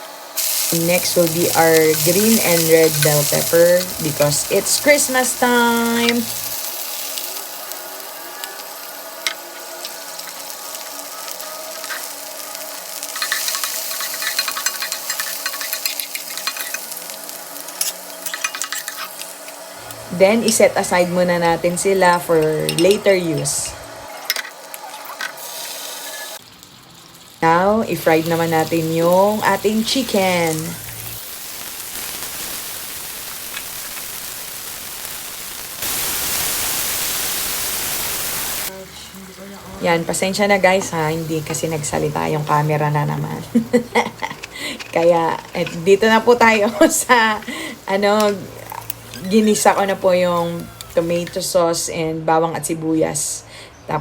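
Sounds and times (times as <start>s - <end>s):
peppers sizzling in hot oil: 0.0s - 51.6s.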